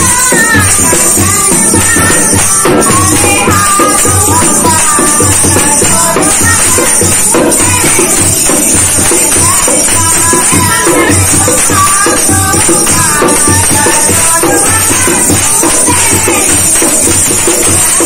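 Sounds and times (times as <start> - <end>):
hand clapping: 0.0 - 18.0
hand drum rhythm: 0.0 - 18.0
metallic jingle: 0.0 - 18.0
woman singing: 0.0 - 18.0.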